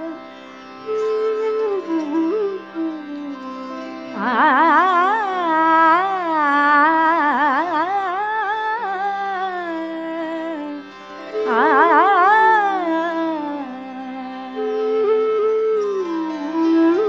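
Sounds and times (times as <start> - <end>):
flute and vocal melody: 0.0 - 17.0.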